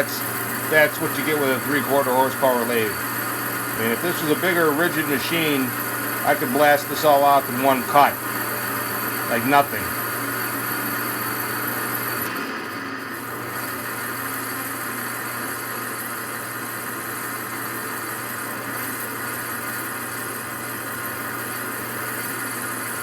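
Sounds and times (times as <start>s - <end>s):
metal lathe motor humming: 0.0s - 23.0s.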